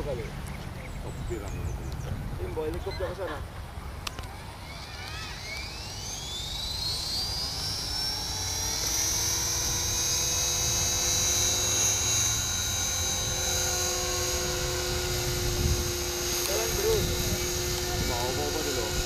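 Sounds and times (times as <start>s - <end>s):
rc helicopter rotor whine: 0.0s - 19.0s.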